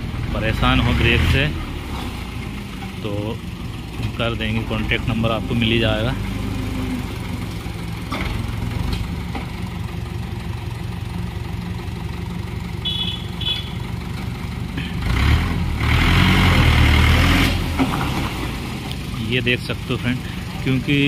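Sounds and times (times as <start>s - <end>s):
tractor diesel engine idling and revving: 0.0s - 21.0s.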